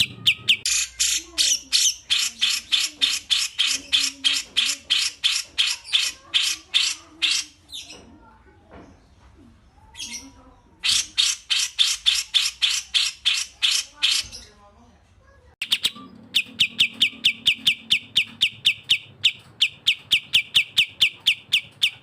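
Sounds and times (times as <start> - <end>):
songbirds chattering: 0.0 - 14.8, 15.6 - 22.0.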